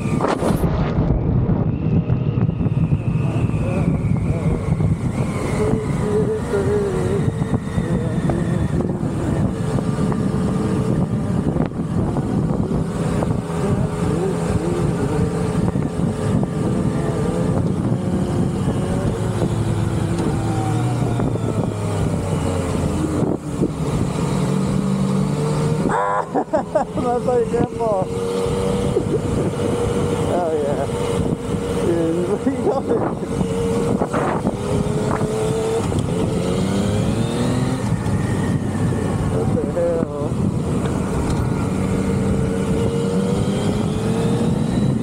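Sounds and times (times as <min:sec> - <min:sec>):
road noise rushing: 0:00.0 - 0:45.0
vehicle engine running: 0:00.0 - 0:45.0.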